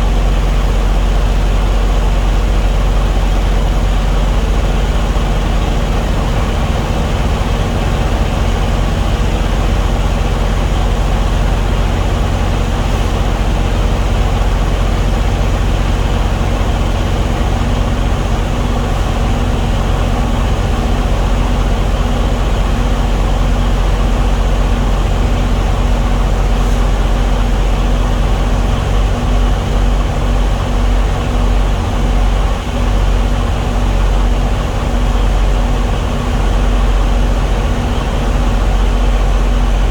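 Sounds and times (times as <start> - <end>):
engine rumbling: 0.0 - 39.9.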